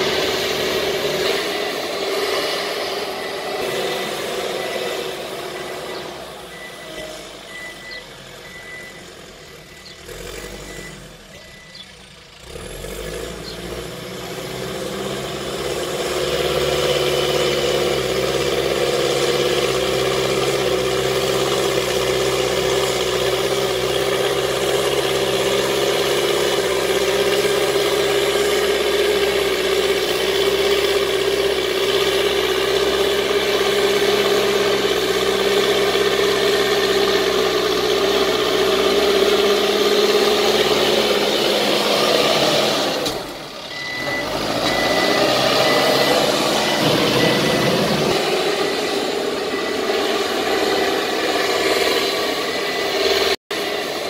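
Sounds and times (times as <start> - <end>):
reversing alarm beeping: 0.0 - 12.0, 15.8 - 54.0
diesel engine running under load: 0.0 - 54.0.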